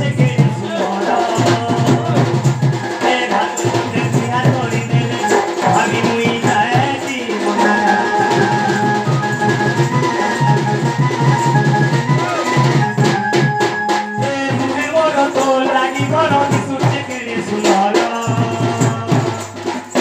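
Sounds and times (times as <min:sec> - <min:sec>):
held melody line: 0:00.0 - 0:19.4
barrel drum beaten rhythmically: 0:00.0 - 0:20.0.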